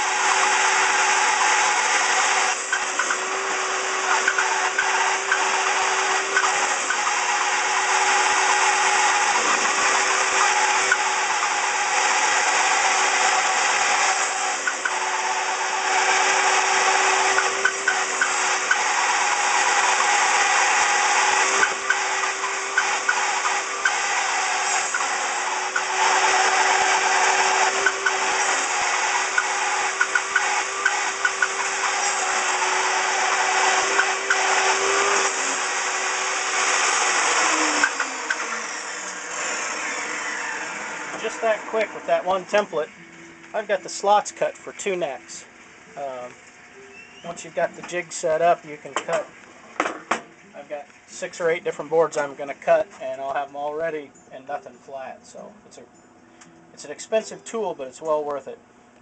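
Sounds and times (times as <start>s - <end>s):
table saw cutting wood: 0.0s - 54.7s.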